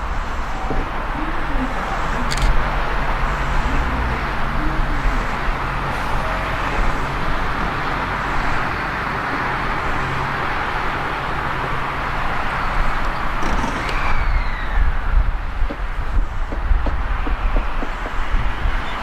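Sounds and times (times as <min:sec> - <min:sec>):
electric railcar hum: 0:00.0 - 0:19.0.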